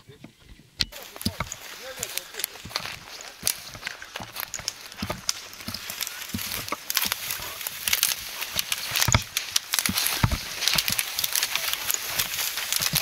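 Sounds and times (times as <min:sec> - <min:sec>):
twigs snapping and scraping: 0:00.5 - 0:13.0
footsteps crunching through snow: 0:00.9 - 0:13.0.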